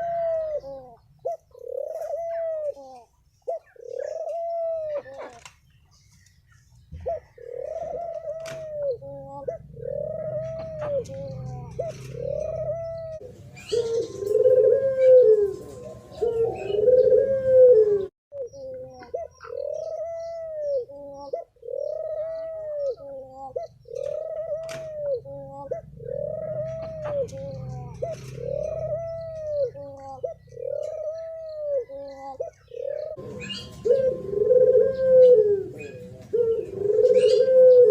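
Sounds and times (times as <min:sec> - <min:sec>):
doves cooing: 0:00.0 - 0:05.6, 0:06.8 - 0:37.9.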